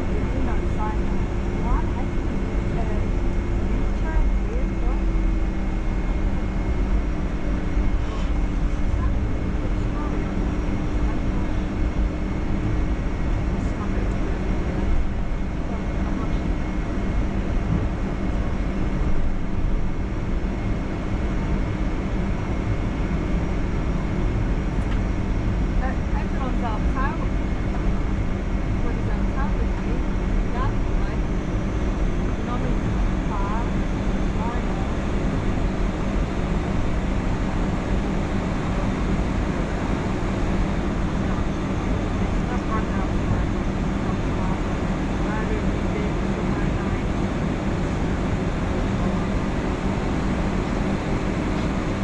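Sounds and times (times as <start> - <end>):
aircraft cabin rumble: 0.0 - 52.0
faint steady whine: 0.0 - 52.0.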